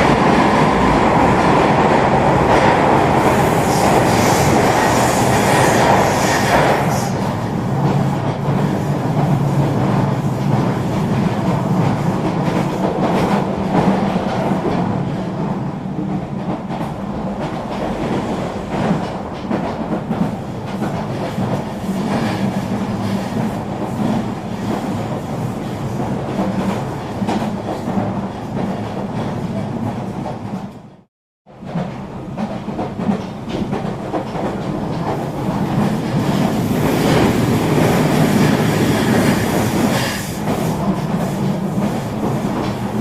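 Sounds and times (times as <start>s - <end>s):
train rolling rumble: 0.0s - 43.0s.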